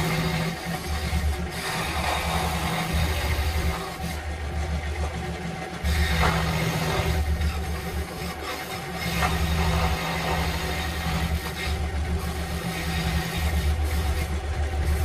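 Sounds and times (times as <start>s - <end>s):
low motor hum: 0.0s - 15.0s
scroll saw cutting wood: 0.0s - 15.0s.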